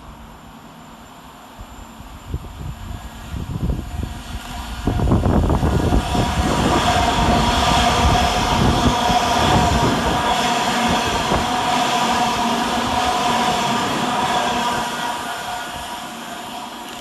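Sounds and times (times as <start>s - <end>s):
electric train whine: 0.0s - 17.0s
wheels rumbling on rails: 0.0s - 17.0s.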